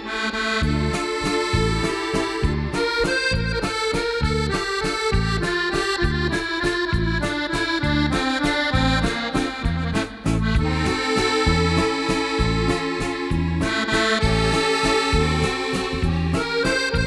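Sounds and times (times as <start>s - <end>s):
accordion music: 0.0s - 17.0s.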